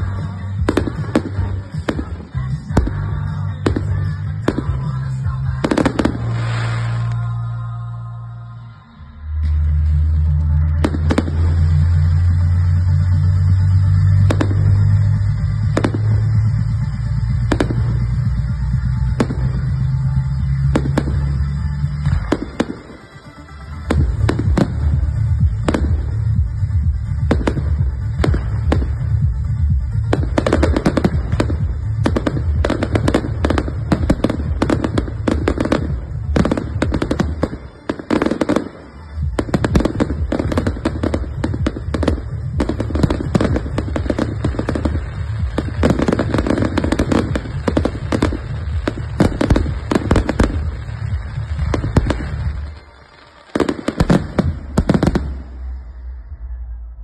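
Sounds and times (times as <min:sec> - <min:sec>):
fireworks bursting: 0:00.0 - 0:56.6.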